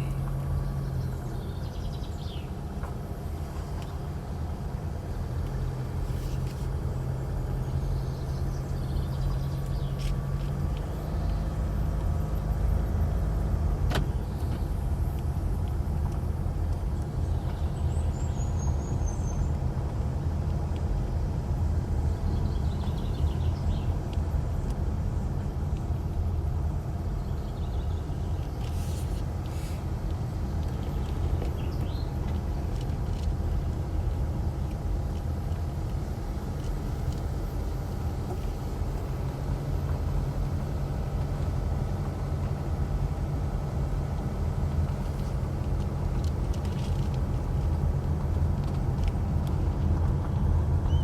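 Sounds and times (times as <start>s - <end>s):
motor vehicle rumbling: 0.0s - 51.0s.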